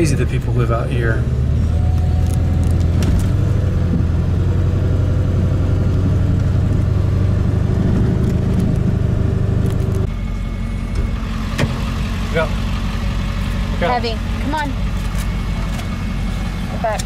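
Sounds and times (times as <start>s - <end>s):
low hum: 0.0s - 17.0s
truck engine and tyre rumble: 0.0s - 17.0s.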